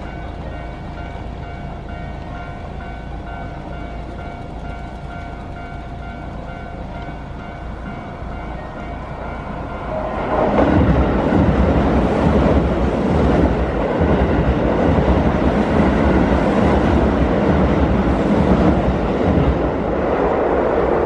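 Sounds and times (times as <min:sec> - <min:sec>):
train wheels rumbling over rails: 0:00.0 - 0:21.0.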